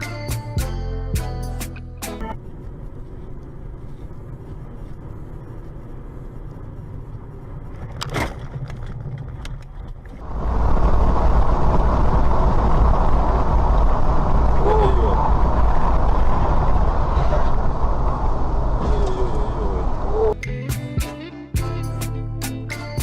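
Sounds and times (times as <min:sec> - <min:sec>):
car engine and road rumble: 0:00.0 - 0:20.4
rushing road noise: 0:01.7 - 0:20.4.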